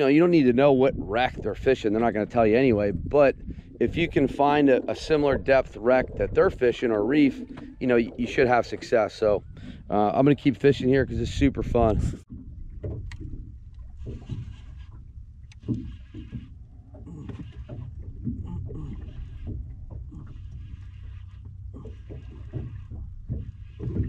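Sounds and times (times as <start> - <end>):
water lapping against boat hull: 0.0 - 24.0
low rumble: 0.2 - 24.0.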